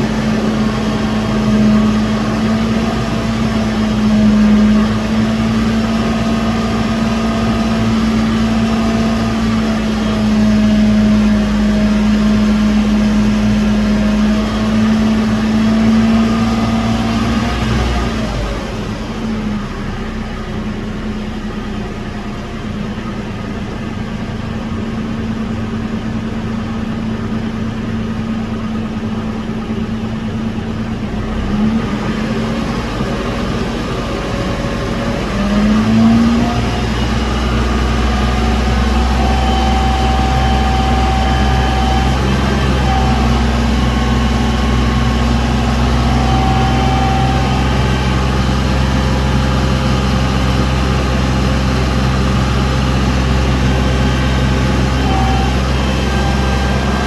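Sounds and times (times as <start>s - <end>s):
car engine droning inside cabin: 0.0s - 57.0s.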